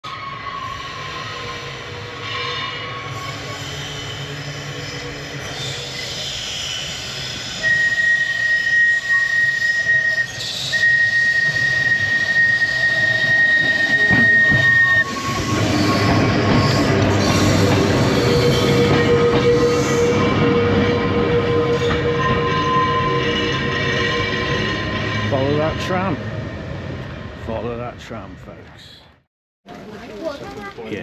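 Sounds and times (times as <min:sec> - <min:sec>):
tram wheels squealing on rails: 0:00.0 - 0:27.7
tram running rumble: 0:00.4 - 0:29.1, 0:29.7 - 0:31.0.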